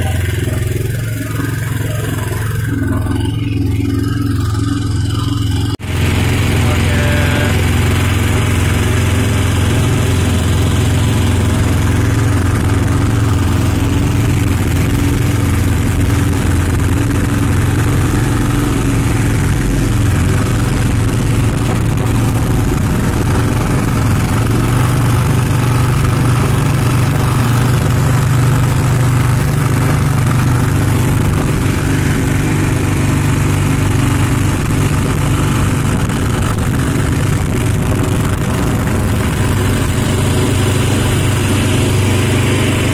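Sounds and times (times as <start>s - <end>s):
small boat motor droning: 0.0s - 42.9s.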